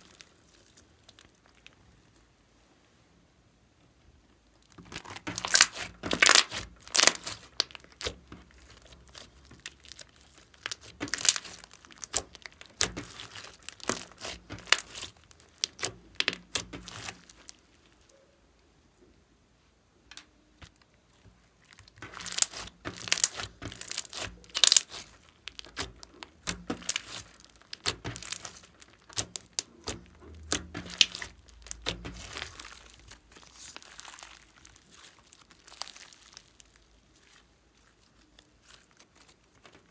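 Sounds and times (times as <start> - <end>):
slime crackling as kneaded: 0.0 - 2.7, 3.7 - 18.2, 20.0 - 39.9.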